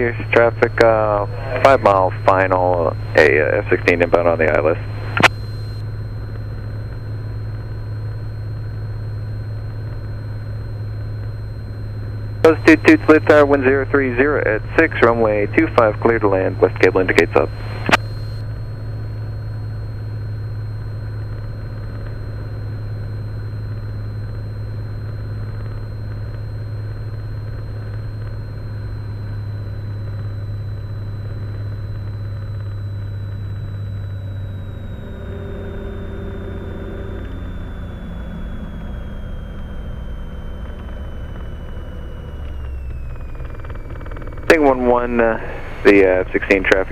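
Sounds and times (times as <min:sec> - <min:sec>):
propeller plane engine droning: 0:00.0 - 0:46.9.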